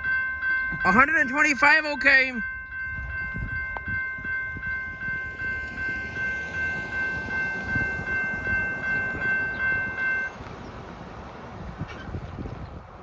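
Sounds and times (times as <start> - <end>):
crossing warning bell ringing: 0.0 - 11.8
freight train cars rolling: 0.0 - 13.0.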